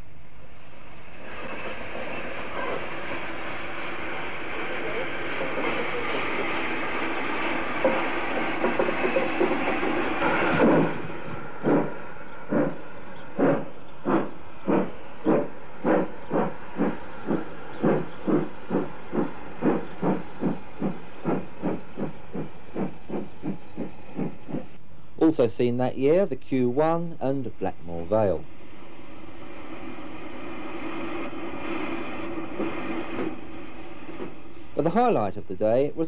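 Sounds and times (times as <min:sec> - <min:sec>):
steam locomotive exhaust chuffs: 0:00.4 - 0:24.8, 0:26.8 - 0:35.9
steam hissing: 0:00.6 - 0:24.8, 0:27.9 - 0:35.1.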